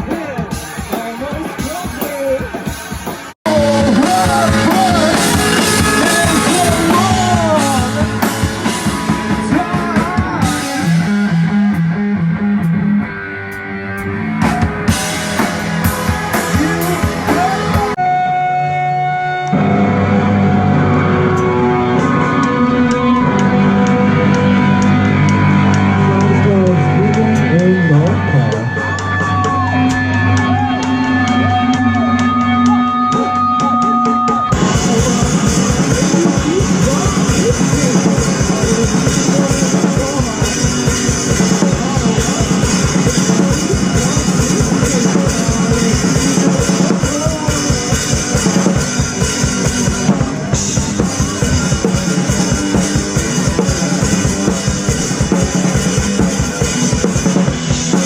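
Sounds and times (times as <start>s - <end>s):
drum kit fast beat: 0.0s - 13.2s, 14.0s - 18.0s, 23.2s - 58.0s
rock band playing: 0.0s - 58.0s.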